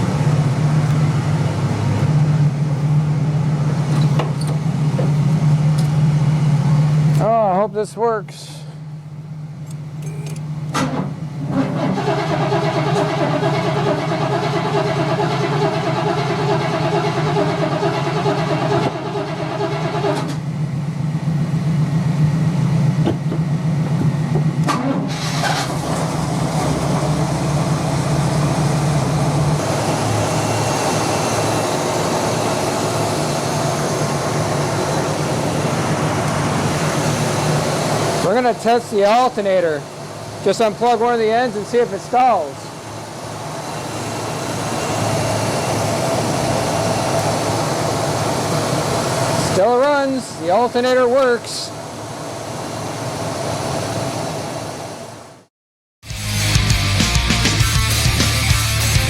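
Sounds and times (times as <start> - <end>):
car engine idling: 0.0 - 53.7.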